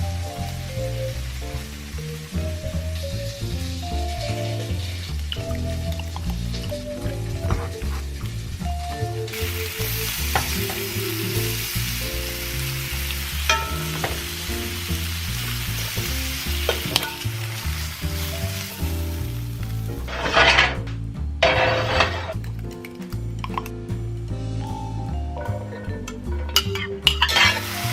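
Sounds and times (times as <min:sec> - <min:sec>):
food sizzling in a pan: 0:00.0 - 0:20.8, 0:21.4 - 0:22.4, 0:26.6 - 0:27.9
background music: 0:00.0 - 0:27.9.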